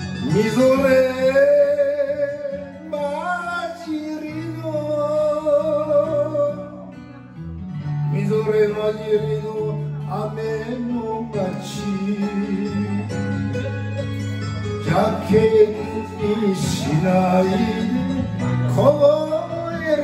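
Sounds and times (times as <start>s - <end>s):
karaoke backing track with guitar: 0.0s - 20.0s
man singing: 0.0s - 20.0s.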